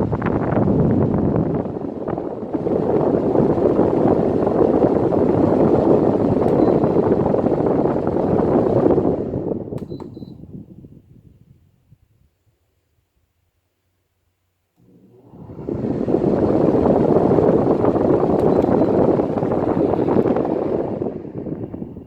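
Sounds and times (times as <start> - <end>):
air conditioner fan blowing: 0.0 - 11.6, 14.8 - 22.0.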